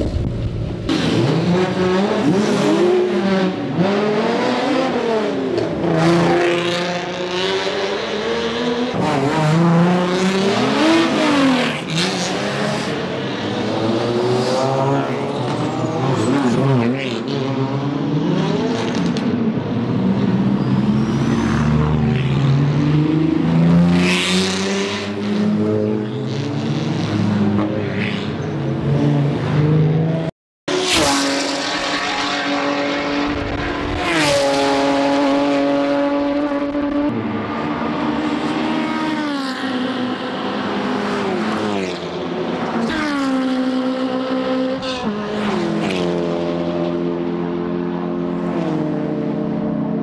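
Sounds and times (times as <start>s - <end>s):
racing car engines revving: 0.1s - 50.0s.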